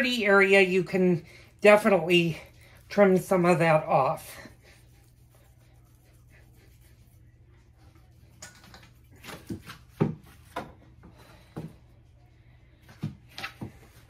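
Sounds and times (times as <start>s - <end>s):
faint low hum: 0.5s - 14.0s.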